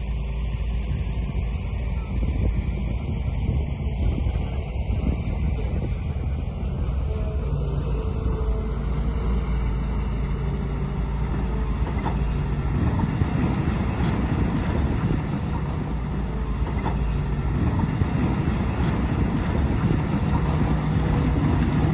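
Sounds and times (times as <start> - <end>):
heavy machinery engine drone: 0.0 - 21.9.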